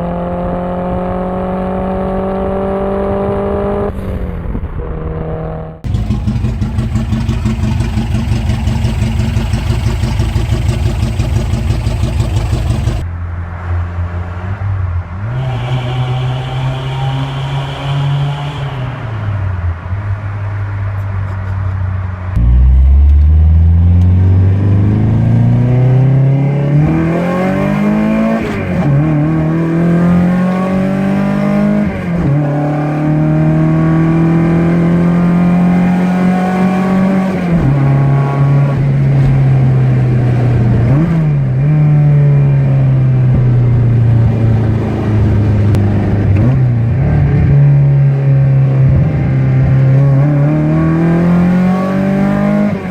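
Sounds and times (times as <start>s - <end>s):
car engine accelerating: 0.0s - 13.1s, 22.3s - 52.9s.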